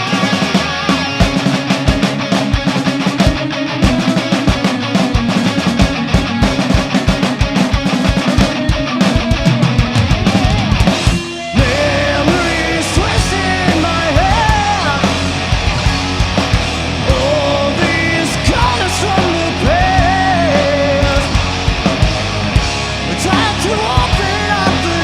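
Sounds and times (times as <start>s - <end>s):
distorted guitars: 0.0s - 25.0s
fast drums: 0.0s - 25.0s
heavy rock band playing: 0.0s - 25.0s.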